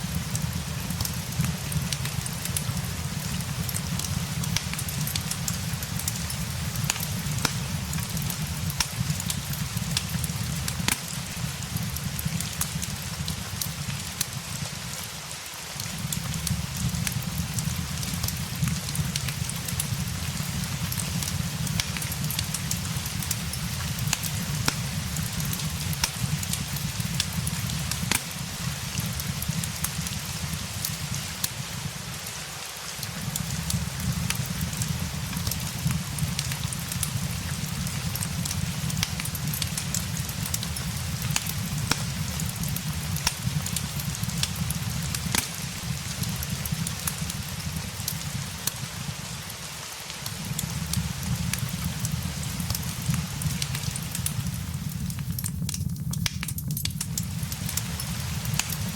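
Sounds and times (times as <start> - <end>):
steady rain: 0.0 - 58.9
wood fire crackling and popping: 0.0 - 58.9.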